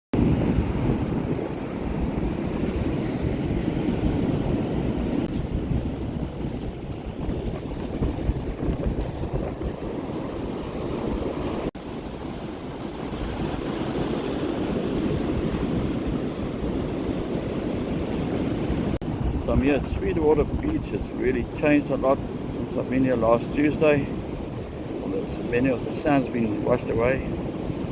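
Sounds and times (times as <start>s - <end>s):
wind buffeting the microphone: 0.1s - 27.9s
surf breaking on a beach: 0.2s - 27.9s.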